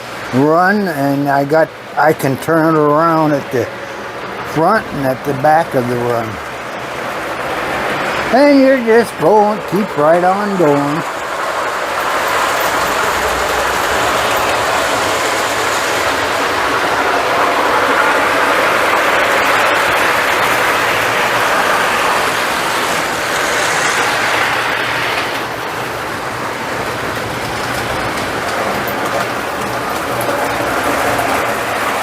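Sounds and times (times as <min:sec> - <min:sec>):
model train rolling on track: 0:00.0 - 0:32.0.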